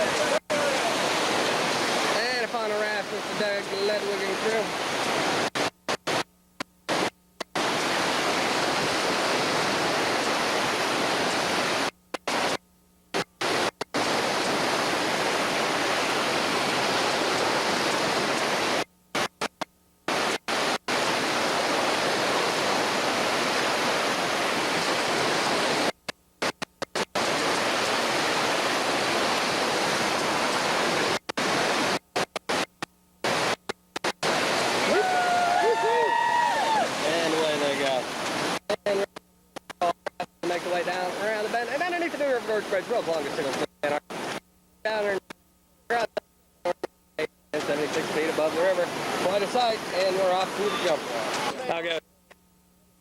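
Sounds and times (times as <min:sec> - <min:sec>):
whitewater rushing in rapids: 0:00.0 - 0:06.2, 0:06.9 - 0:12.6, 0:13.4 - 0:19.3, 0:20.1 - 0:25.9, 0:27.2 - 0:32.6, 0:33.2 - 0:39.1, 0:40.4 - 0:44.4, 0:47.6 - 0:51.8.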